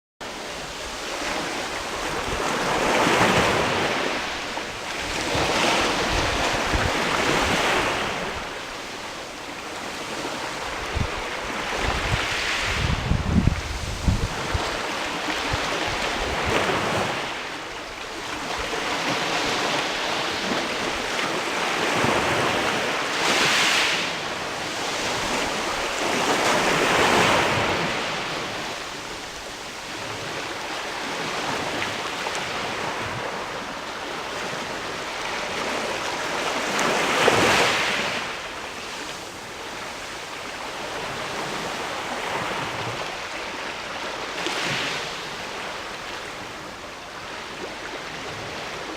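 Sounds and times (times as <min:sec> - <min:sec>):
waves washing against rocky shore: 0:00.2 - 0:48.9.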